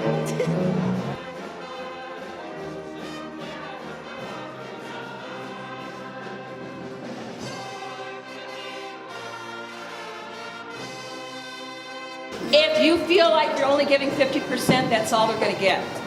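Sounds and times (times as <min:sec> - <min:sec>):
orchestra brass playing held chords: 0:00.0 - 0:14.6.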